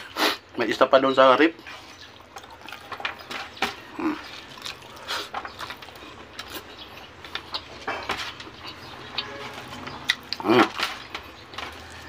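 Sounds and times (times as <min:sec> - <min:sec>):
man chewing and lip-smacking: 0:01.6 - 0:12.0.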